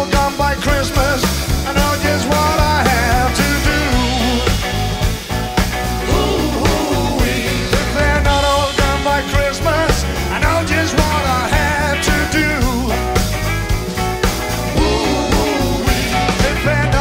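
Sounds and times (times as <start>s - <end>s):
blues-rock band playing: 0.0s - 17.0s
electric guitar lead bending pitch: 0.8s - 17.0s.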